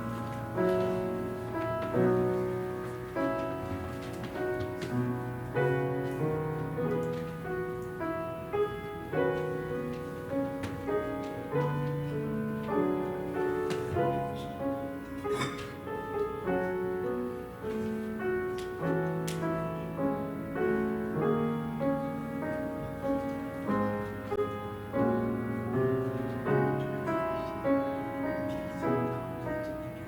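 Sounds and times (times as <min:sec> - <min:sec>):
slow keyboard music: 0:00.0 - 0:30.0.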